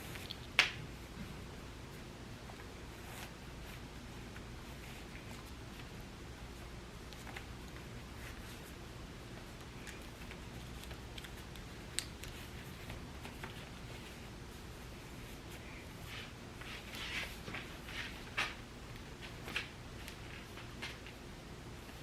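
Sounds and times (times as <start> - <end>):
clothing rustling: 0.0 - 21.2
low steady hum: 0.0 - 22.0.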